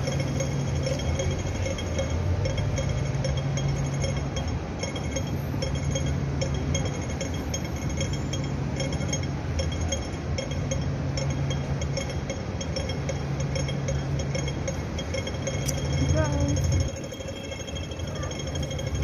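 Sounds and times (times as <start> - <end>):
city traffic hum: 0.0 - 19.0
crossing signal ticking: 0.0 - 19.0.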